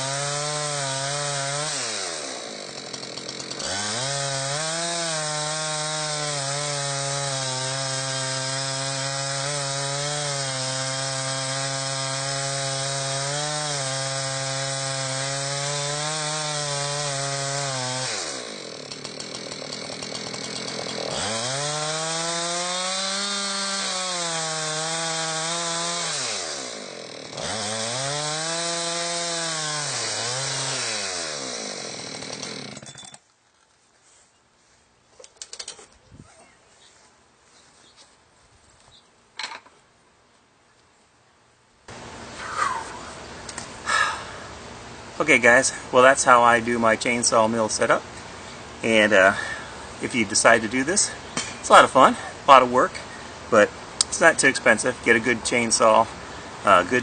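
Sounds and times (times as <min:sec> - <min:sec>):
chainsaw cutting through log: 0:00.0 - 0:33.2, 0:41.9 - 0:57.0.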